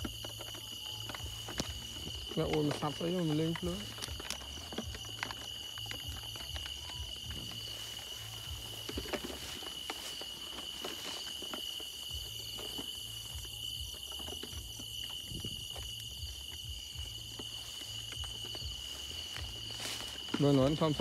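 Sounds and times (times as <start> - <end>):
dry corn leaves rustling: 0.0 - 21.0
footsteps: 0.0 - 21.0
night insects trilling: 0.0 - 21.0.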